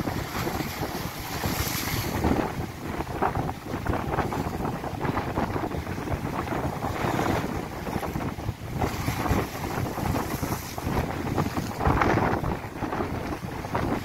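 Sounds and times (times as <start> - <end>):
surf breaking against sea wall: 0.0 - 14.0
wind buffeting microphone: 0.0 - 14.0.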